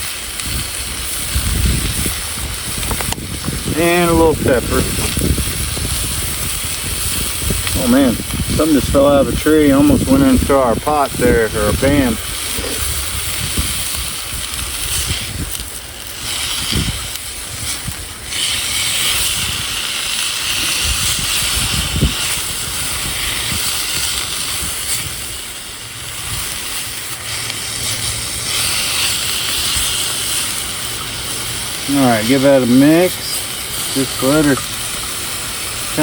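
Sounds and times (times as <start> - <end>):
greens sizzling in oil: 0.0 - 36.0.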